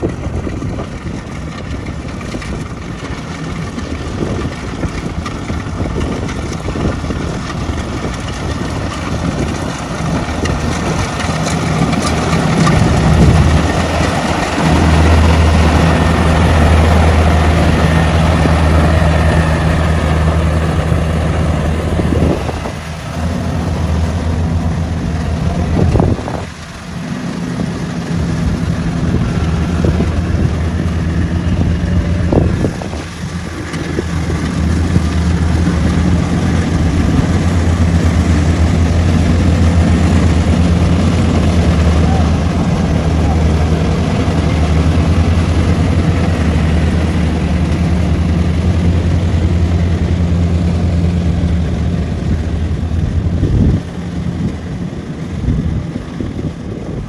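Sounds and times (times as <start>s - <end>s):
diesel engine humming: 0.0s - 57.0s.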